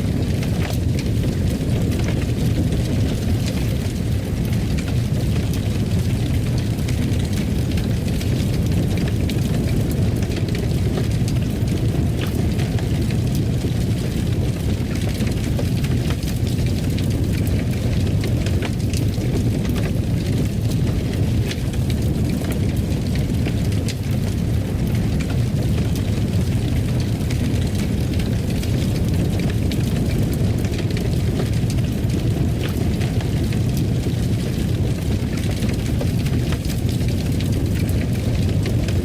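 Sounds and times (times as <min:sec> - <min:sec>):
wood fire crackling and popping: 0:00.0 - 0:39.0.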